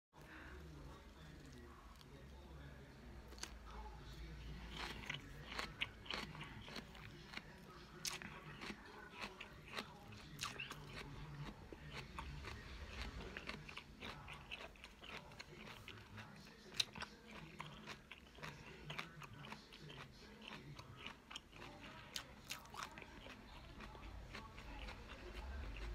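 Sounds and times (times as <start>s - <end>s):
person chewing crunchy kale: 3.3s - 25.9s.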